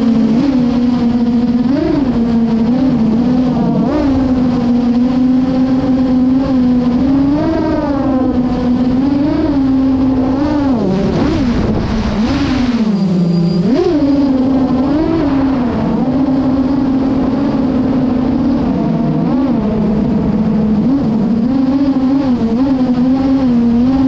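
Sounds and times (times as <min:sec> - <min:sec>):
quadcopter propellers buzzing: 0:00.0 - 0:24.0.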